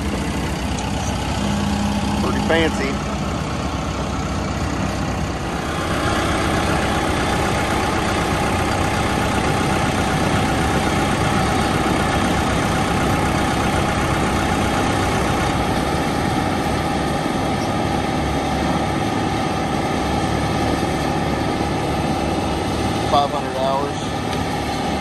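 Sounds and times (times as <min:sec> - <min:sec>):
diesel engine running: 0:00.0 - 0:25.0
wood grinder working: 0:00.0 - 0:25.0.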